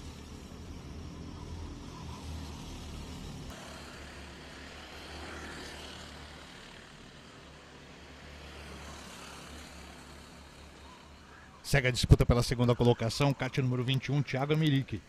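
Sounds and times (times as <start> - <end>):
kart engines droning: 0.0 - 14.8.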